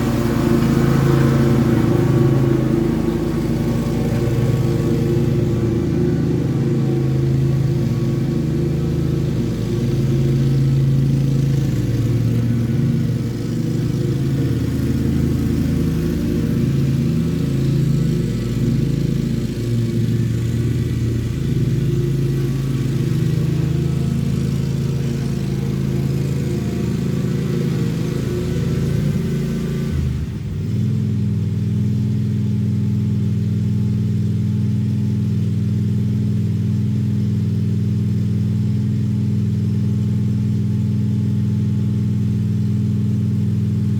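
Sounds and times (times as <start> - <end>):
lawn mower engine running: 0.0 - 43.9.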